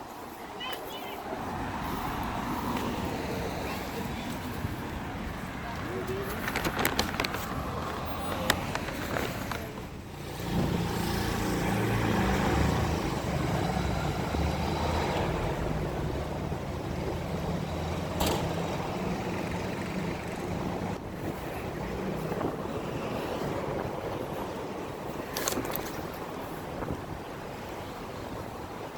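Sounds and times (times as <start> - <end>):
traffic engine rumble: 0.0 - 28.9.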